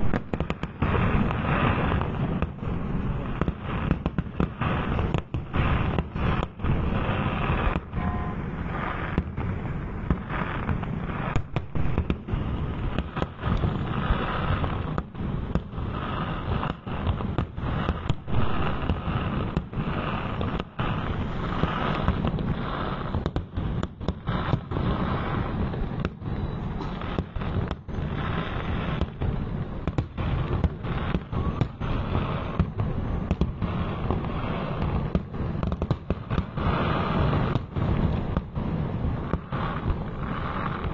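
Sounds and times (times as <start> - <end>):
firework bangs: 0.0 - 40.9.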